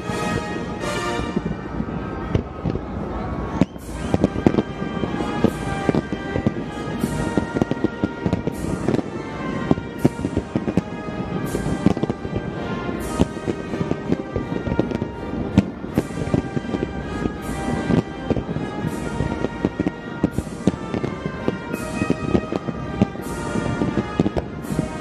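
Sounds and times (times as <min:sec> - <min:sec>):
background music: 0:00.0 - 0:02.7, 0:03.6 - 0:25.0
fireworks bursting with bangs: 0:00.0 - 0:25.0.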